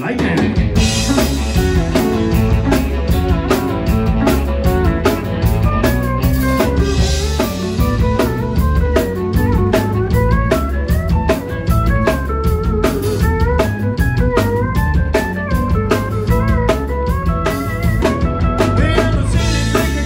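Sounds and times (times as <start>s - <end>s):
bass and guitars: 0.0s - 20.0s
drum kit steady beat: 0.0s - 20.0s
pedal steel guitar sliding notes: 0.8s - 20.0s.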